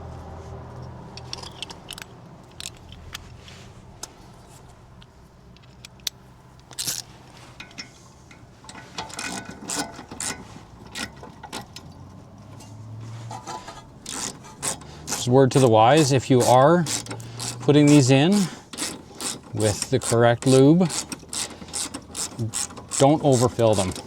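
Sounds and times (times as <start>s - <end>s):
metal tools clicking and scraping: 1.1s - 3.3s, 4.0s - 24.0s.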